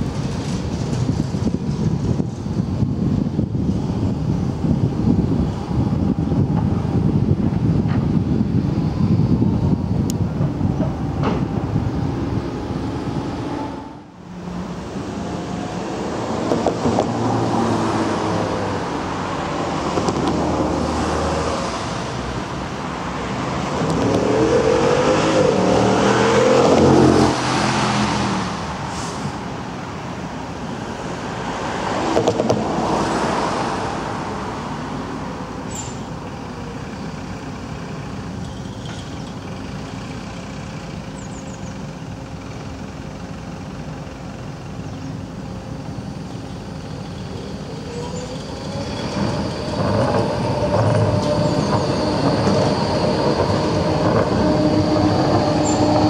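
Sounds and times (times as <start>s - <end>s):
cars passing by: 0.0s - 56.0s
steady traffic hum: 0.0s - 56.0s.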